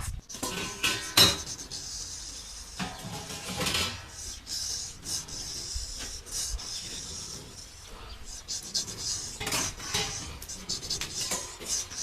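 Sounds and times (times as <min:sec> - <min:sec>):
scraping strokes: 0:00.0 - 0:12.0.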